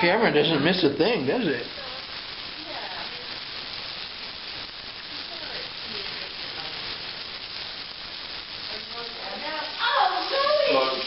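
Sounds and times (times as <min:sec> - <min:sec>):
sausage patties sizzling in pan: 0:00.0 - 0:11.0.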